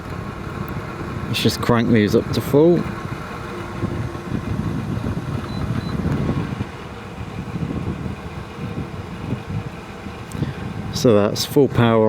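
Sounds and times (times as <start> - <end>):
wind buffeting a microphone: 0.0 - 12.0.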